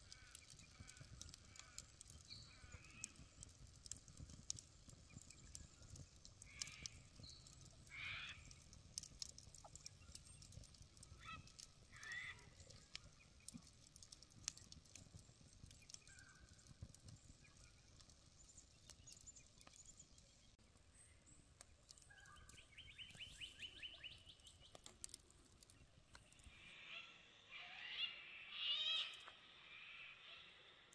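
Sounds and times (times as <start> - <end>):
campfire crackling: 0.0 - 26.7.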